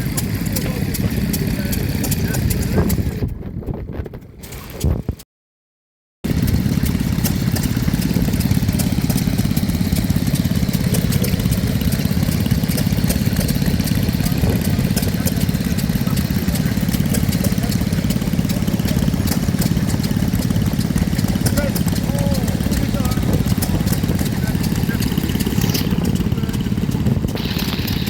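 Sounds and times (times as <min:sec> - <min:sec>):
stationary engine running: 0:00.0 - 0:03.2, 0:06.2 - 0:28.0.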